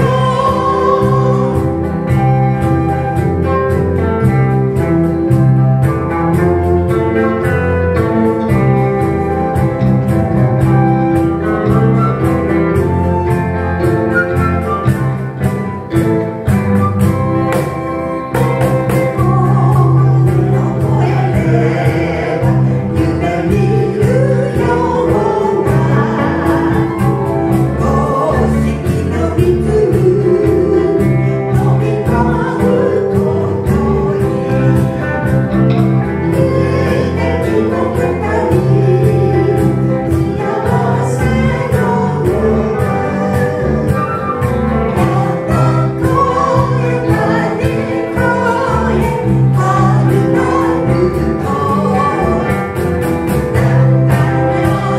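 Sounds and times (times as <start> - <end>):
person singing: 0.0 - 10.0, 17.6 - 54.9
live band playing pop song: 0.0 - 54.9.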